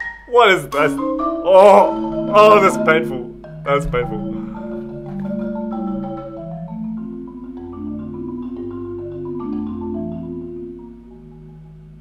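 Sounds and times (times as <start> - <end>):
marimba rolls with mallets: 0.0 - 12.0.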